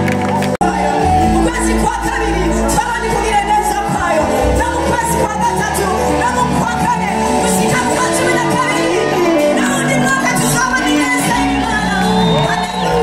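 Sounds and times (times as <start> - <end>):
live band music over loudspeakers: 0.0 - 13.0
backing singers: 0.4 - 13.0
woman singing lead vocal: 0.6 - 13.0.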